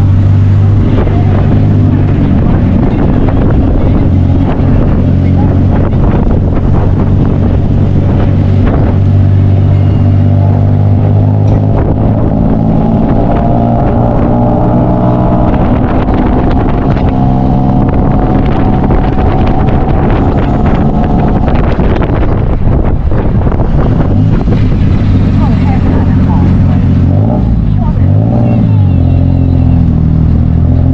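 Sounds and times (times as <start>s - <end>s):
vehicle engine running: 0.0s - 30.9s.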